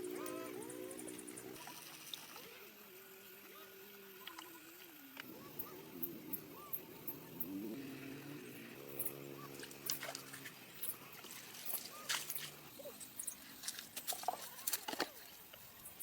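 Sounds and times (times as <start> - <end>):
low steady drone: 0.0 - 13.9.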